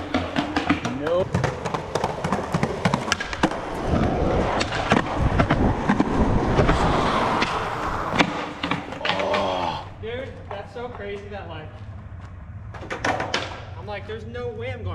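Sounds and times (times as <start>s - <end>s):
skateboard wheels rolling on pavement: 0.0s - 14.1s.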